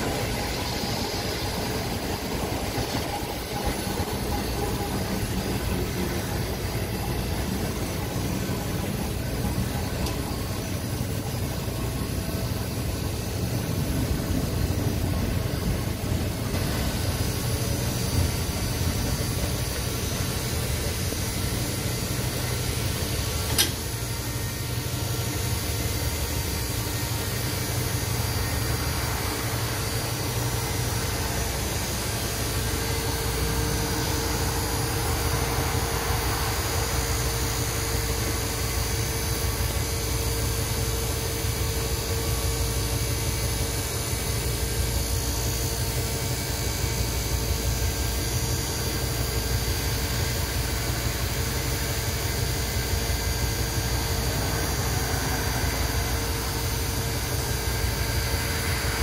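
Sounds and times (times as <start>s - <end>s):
streetcar cab hum and noise: 0.0s - 59.0s.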